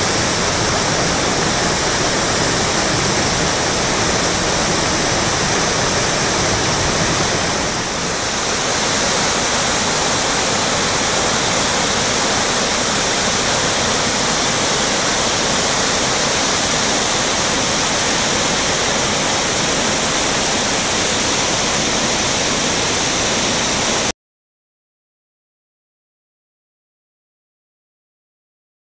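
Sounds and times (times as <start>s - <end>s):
river rushing over rocks: 0.0s - 24.1s.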